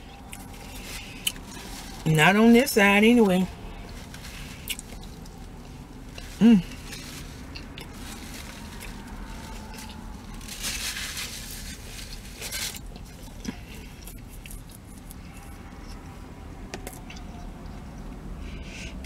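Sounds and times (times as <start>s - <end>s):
person chewing food: 0.0s - 2.0s, 3.7s - 10.6s, 11.7s - 19.0s
steady low hum: 0.0s - 19.0s.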